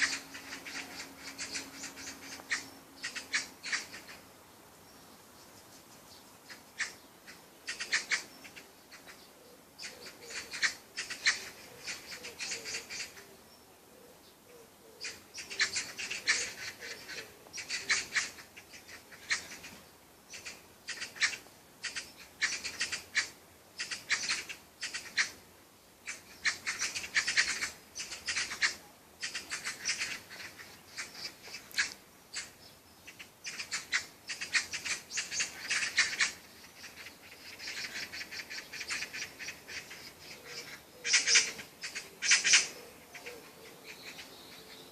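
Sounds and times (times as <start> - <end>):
bird chirping: 0.0 - 25.4, 26.0 - 44.9.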